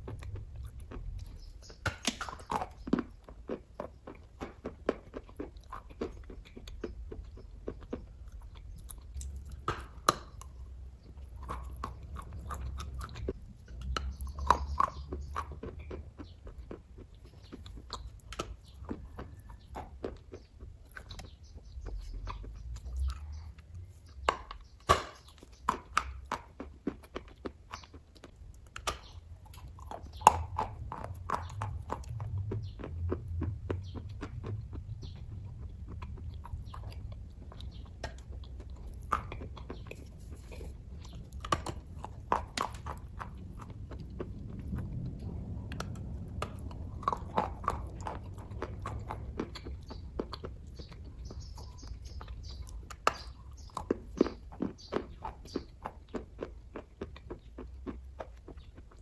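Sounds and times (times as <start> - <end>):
chewing mouth clicks and smacks: 0.0 - 59.0.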